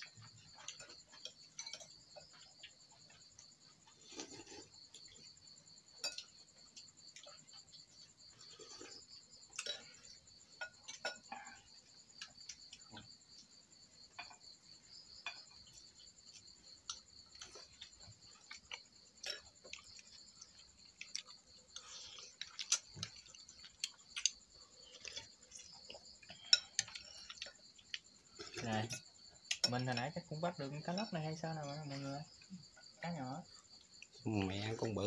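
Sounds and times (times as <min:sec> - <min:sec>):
night insects trilling: 0:00.0 - 0:35.0.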